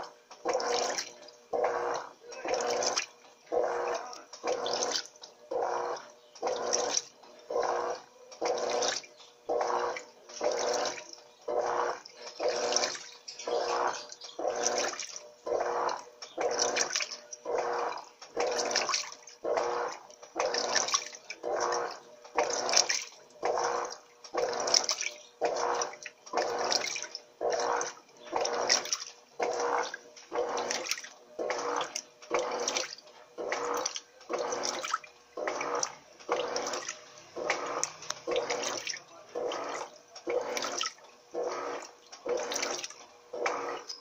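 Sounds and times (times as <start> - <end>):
motor hum: 0.0 - 44.0
washing machine water swishing: 0.0 - 44.0.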